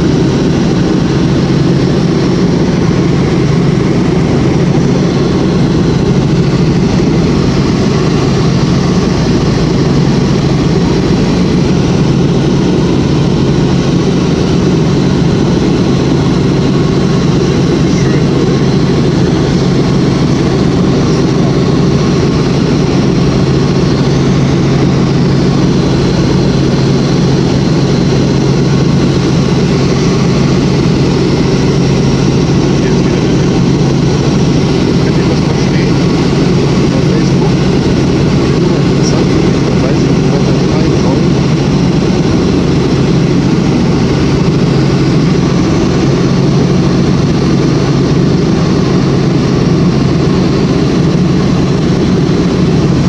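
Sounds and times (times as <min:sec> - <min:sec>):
helicopter engine and rotor noise: 0:00.0 - 0:53.0.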